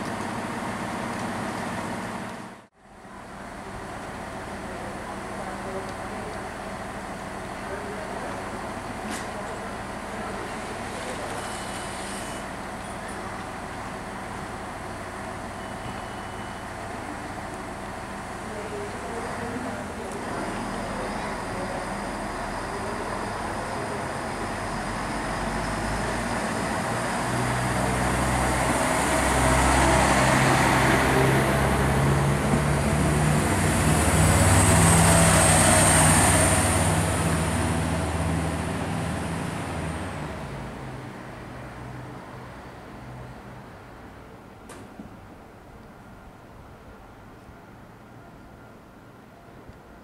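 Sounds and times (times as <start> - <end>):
diesel train engine accelerating: 0.0 - 49.2.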